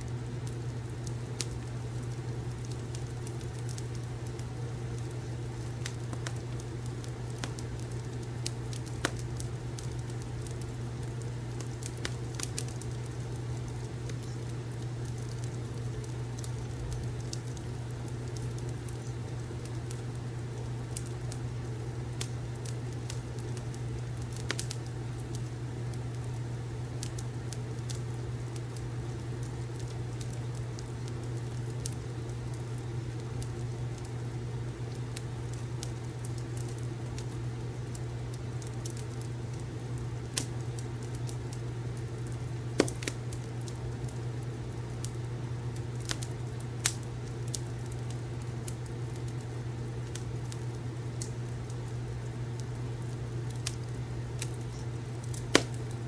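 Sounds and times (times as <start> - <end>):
steady low hum: 0.0 - 56.0
wood fire crackling: 0.0 - 56.0.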